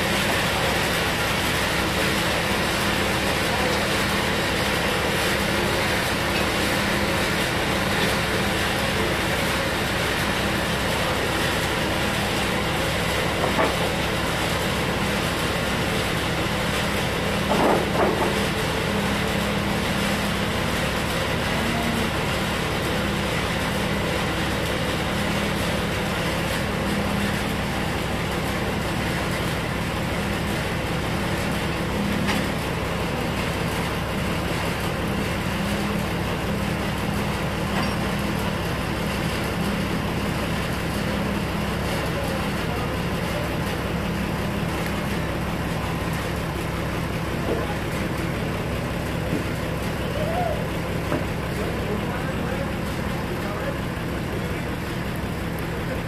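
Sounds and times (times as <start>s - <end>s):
band sawmill humming: 0.0s - 56.0s.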